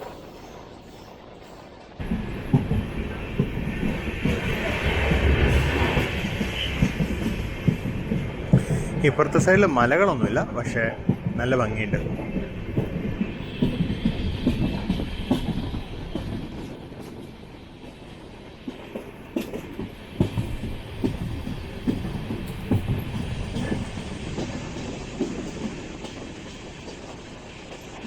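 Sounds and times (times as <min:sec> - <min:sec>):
train rumble: 0:00.0 - 0:28.0
wheel clatter over rail joints: 0:02.0 - 0:28.0.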